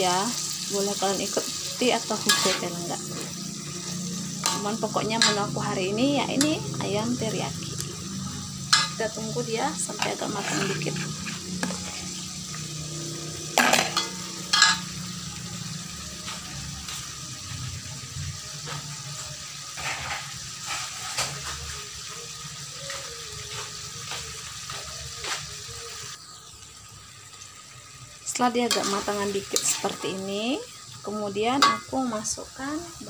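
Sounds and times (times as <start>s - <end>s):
chicken sizzling in a wok: 0.0s - 33.0s.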